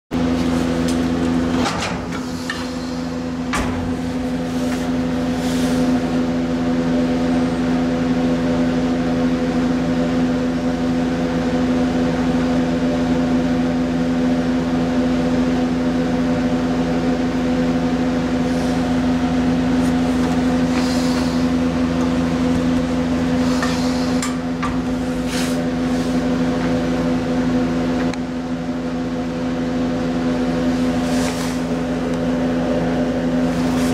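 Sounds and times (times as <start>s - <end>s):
machine hum: 0.1s - 33.9s.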